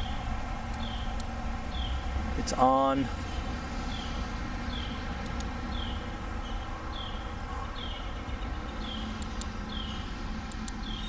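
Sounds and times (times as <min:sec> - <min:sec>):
small bird chirping: 0:00.0 - 0:02.1, 0:03.2 - 0:10.1
steady low rumble: 0:00.0 - 0:11.0.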